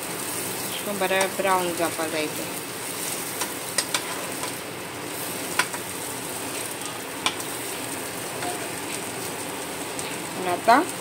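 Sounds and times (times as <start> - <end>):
cutlets sizzling in oil: 0.0 - 11.0.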